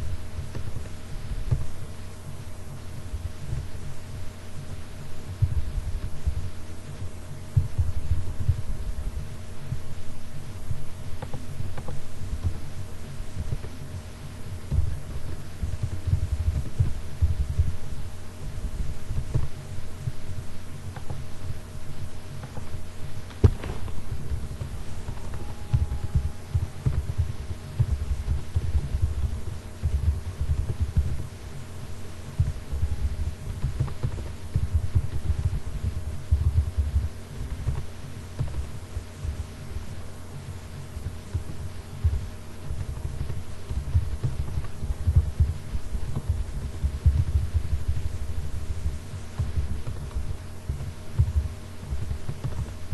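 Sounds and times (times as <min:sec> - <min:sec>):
electrical hum: 0:00.0 - 0:52.9
pulsing low rumble: 0:00.0 - 0:52.9.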